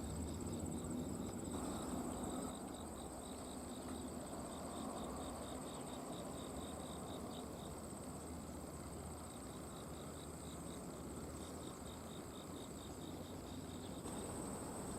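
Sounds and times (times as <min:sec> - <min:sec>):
crickets chirping: 0:00.0 - 0:14.9
crickets trilling: 0:00.0 - 0:14.9.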